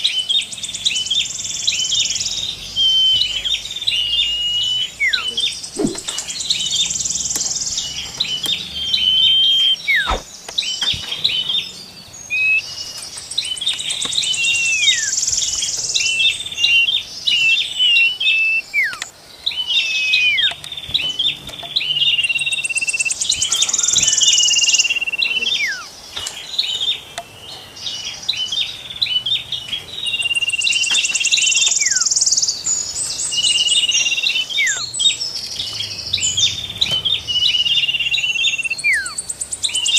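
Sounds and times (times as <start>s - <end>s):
high buzzy bird trill: 0.0s - 13.1s, 13.7s - 20.6s, 21.9s - 26.0s, 30.0s - 36.6s, 37.2s - 39.9s
songbirds singing: 0.0s - 39.9s.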